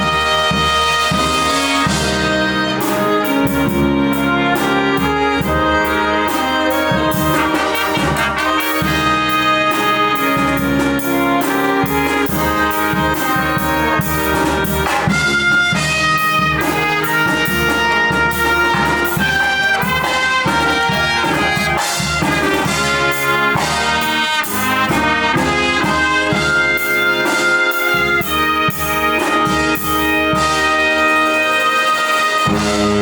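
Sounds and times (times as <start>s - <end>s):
steady drum beat: 0.0s - 33.0s
trumpets and trombones: 0.0s - 33.0s.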